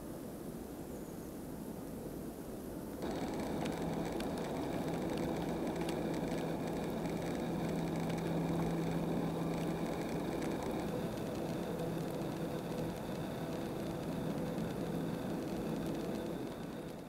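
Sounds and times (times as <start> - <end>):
steady low hum: 3.0 - 17.0.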